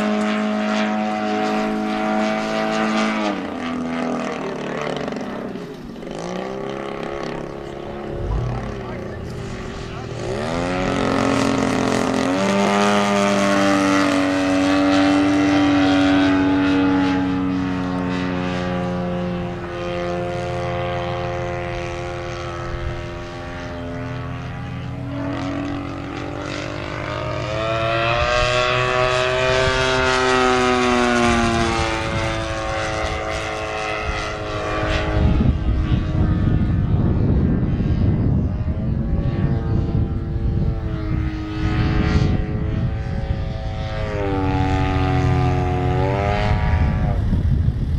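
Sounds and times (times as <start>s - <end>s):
model plane engine and propeller: 0.0s - 47.9s.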